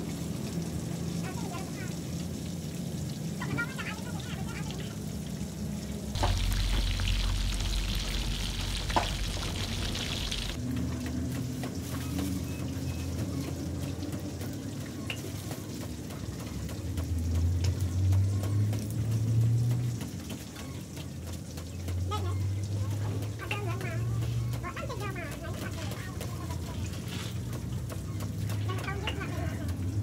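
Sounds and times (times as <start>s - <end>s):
water pouring and sloshing: 0.0s - 30.0s.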